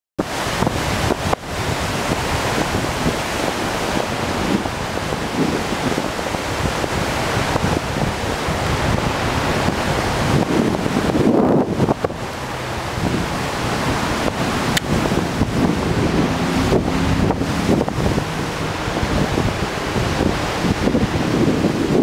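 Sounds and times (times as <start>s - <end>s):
wind buffeting microphone: 0.2s - 22.0s.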